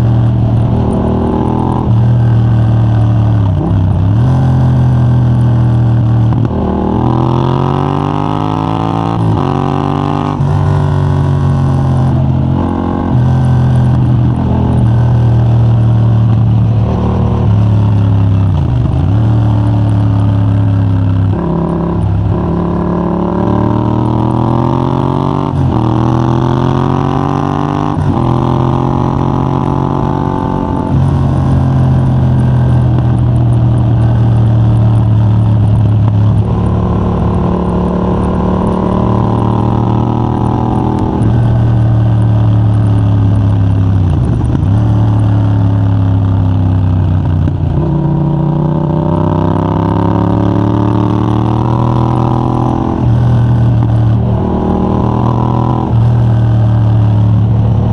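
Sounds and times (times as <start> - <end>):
motorcycle engine revving hard: 0.0 - 57.9.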